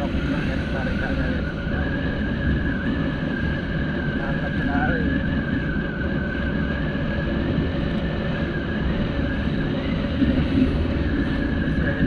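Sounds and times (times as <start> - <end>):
high engine whine: 0.0 - 12.0.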